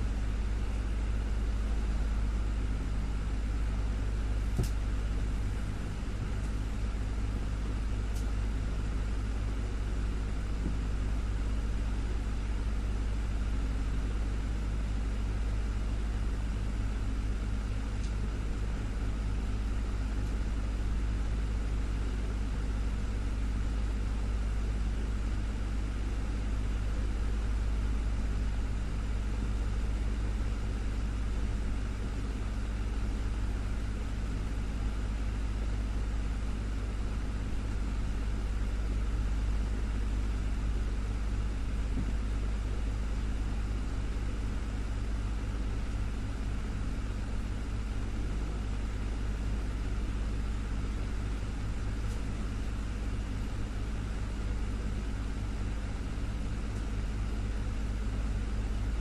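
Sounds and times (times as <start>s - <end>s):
fan motor hum: 0.0s - 59.0s.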